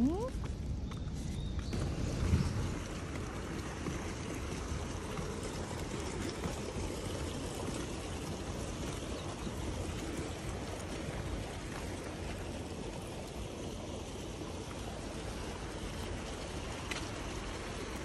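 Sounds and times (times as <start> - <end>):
stream running over rocks: 1.7 - 18.0.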